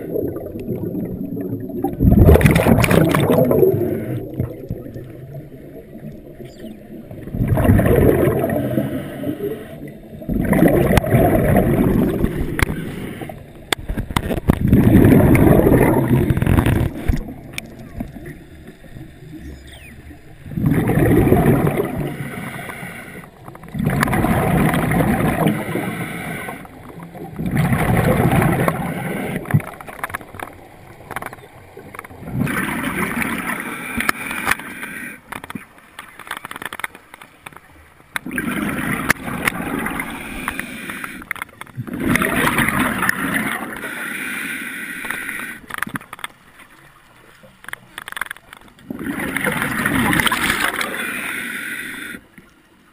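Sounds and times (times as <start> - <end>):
underwater exhaled bubbles: 0.0 - 36.2, 37.6 - 52.9.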